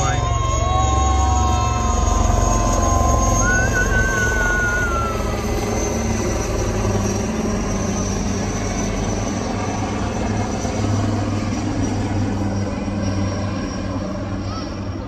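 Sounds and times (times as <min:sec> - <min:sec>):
helicopters droning overhead: 0:00.0 - 0:15.0.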